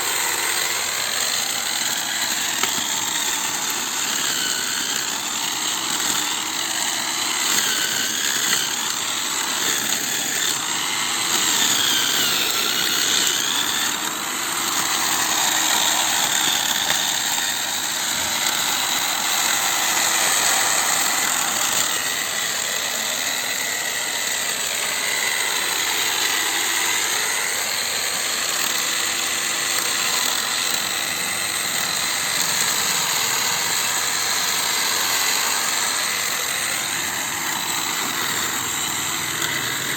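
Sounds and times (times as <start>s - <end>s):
electric drill motor whining: 0.0s - 39.9s.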